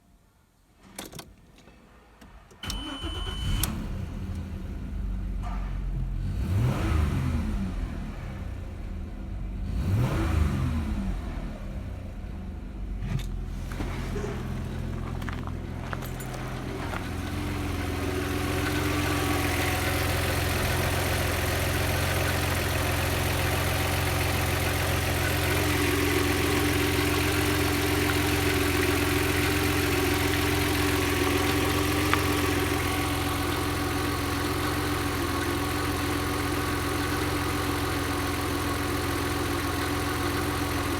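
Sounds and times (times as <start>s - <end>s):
car engine starting and revving: 2.6s - 40.9s
car engine idling: 7.4s - 40.9s.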